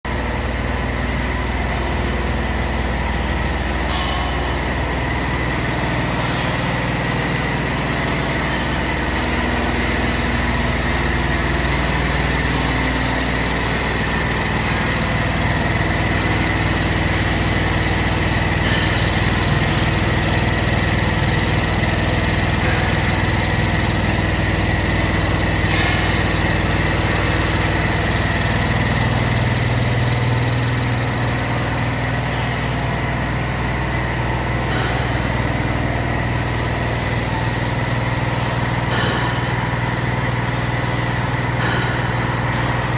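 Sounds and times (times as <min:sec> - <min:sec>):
machine drone with high whine: 0:00.1 - 0:42.9.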